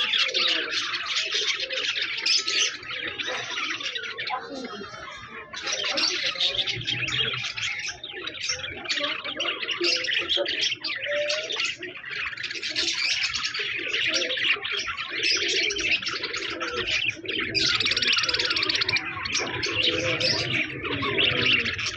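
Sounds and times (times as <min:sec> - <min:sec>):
budgerigars chattering and warbling: 0:00.0 - 0:21.9.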